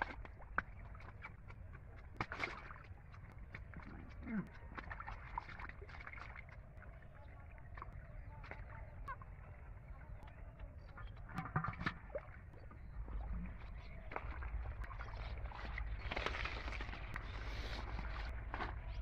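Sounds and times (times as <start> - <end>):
hands splashing in pond water: 0.0 - 9.6, 10.6 - 19.0
rustling in water plants: 0.0 - 19.0.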